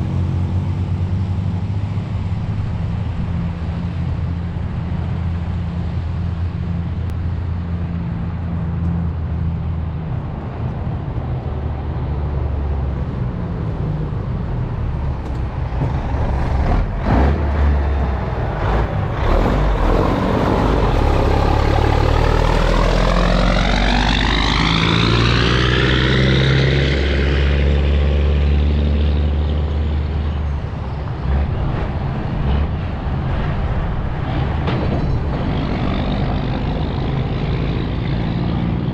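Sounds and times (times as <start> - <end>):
motor vehicle passing by: 0.0 - 38.9
road and wind noise: 0.0 - 38.9.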